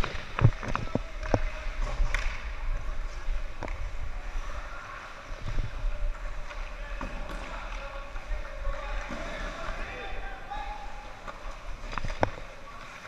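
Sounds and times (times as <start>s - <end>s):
hockey sticks and puck clacking: 0.0s - 4.0s, 5.3s - 13.0s.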